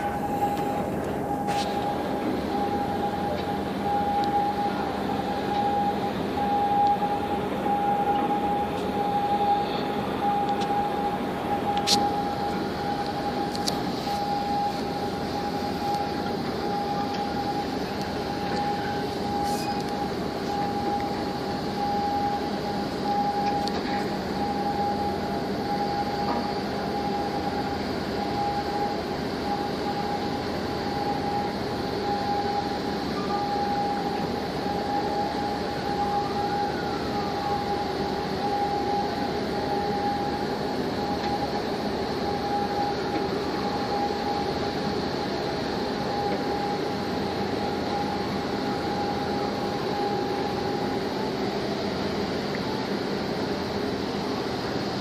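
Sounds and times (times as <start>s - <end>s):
ship machinery drone: 0.0s - 55.0s.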